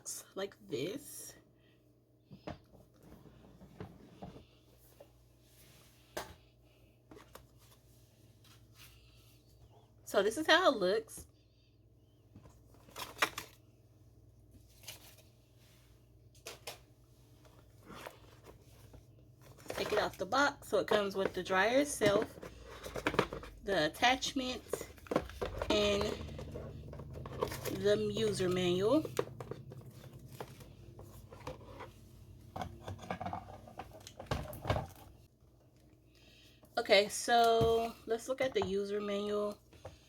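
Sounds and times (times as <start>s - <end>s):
low room hum: 0.0s - 40.0s.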